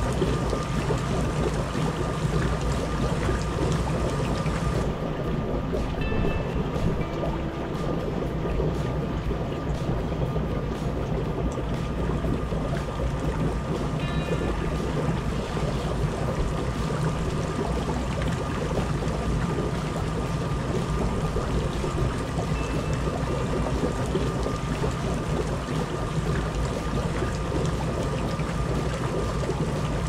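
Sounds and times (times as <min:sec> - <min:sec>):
pump motor humming: 0:00.0 - 0:30.0
water churning and bubbling: 0:00.0 - 0:30.0.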